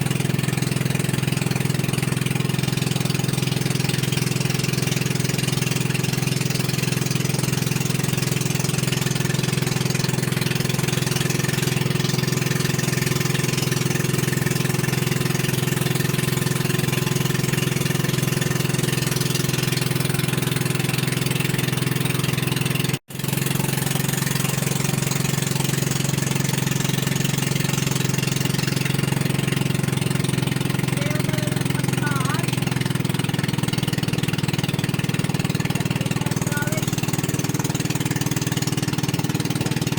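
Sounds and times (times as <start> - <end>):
motorboat engine humming: 0.0 - 39.9
water wash: 0.0 - 39.9.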